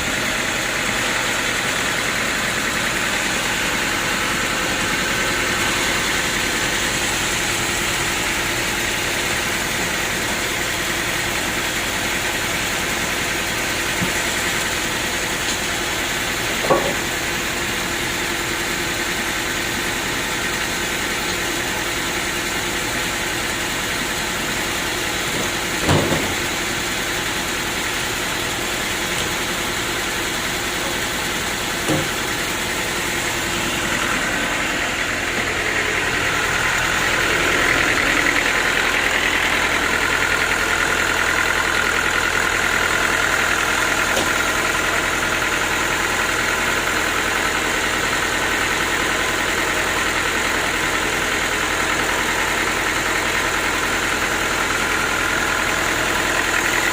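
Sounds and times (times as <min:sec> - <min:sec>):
sawmill machinery drone: 0:00.0 - 0:56.9.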